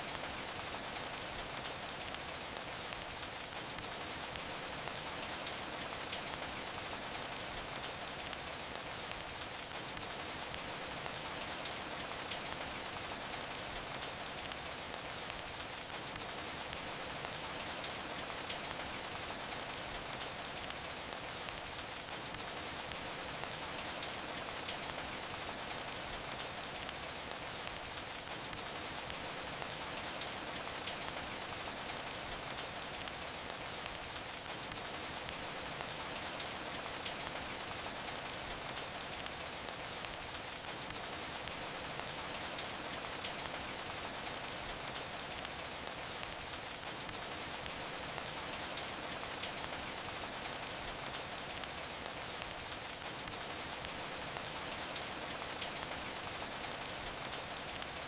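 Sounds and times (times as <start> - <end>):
steady rain falling: 0.0 - 58.0
wood fire crackling and popping: 0.0 - 58.0.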